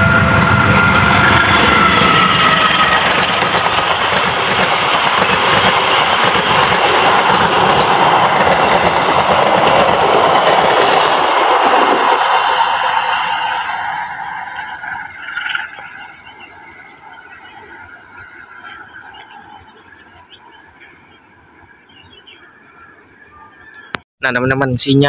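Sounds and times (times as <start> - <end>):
train wheels running over rails: 0.0 - 21.0.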